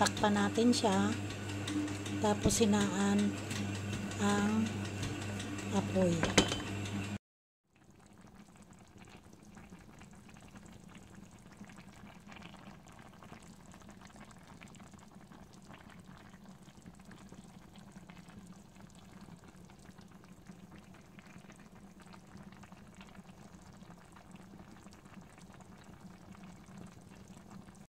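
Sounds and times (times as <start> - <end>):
stew bubbling in a pan: 0.0 - 6.9, 7.6 - 27.9.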